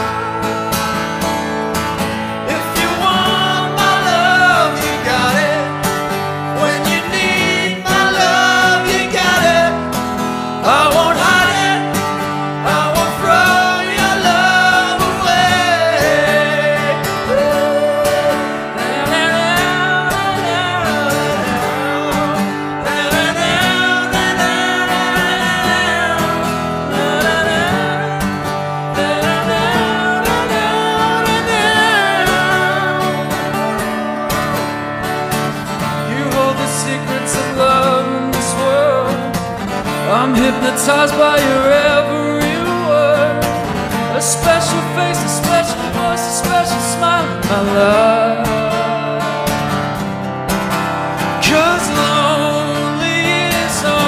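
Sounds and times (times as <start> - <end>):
person singing: 0.0 - 49.7, 51.4 - 54.0
guitar accompaniment: 0.0 - 54.0.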